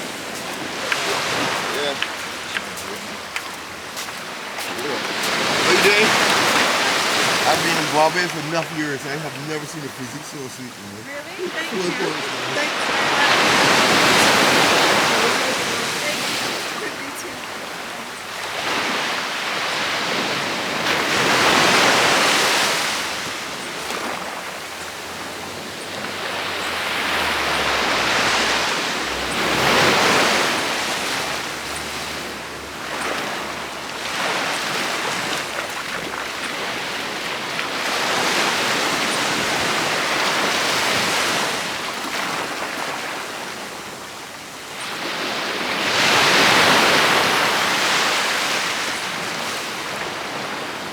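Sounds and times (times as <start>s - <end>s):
ocean waves breaking on beach: 0.0s - 50.9s.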